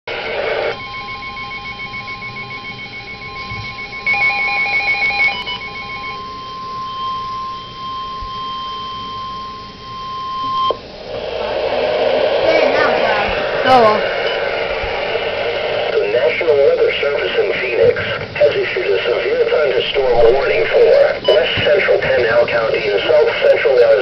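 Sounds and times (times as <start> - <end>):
steady alarm tone: 0.1 - 24.0
rapidly pulsing beep: 0.7 - 11.0, 12.4 - 24.0.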